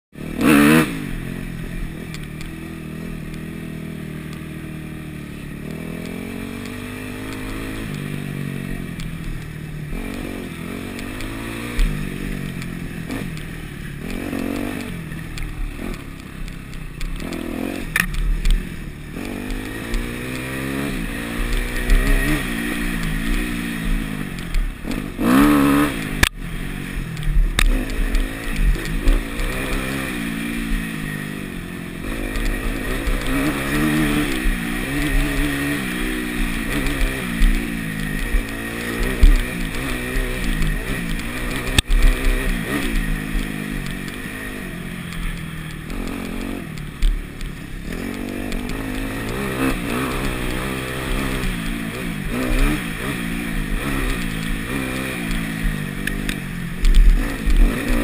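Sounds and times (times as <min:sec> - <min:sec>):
dirt bike engine revving: 0:00.2 - 0:58.0.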